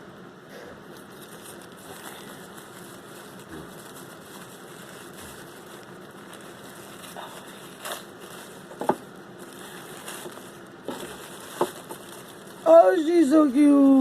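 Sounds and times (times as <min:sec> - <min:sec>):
packaging crinkling: 0:01.0 - 0:14.0.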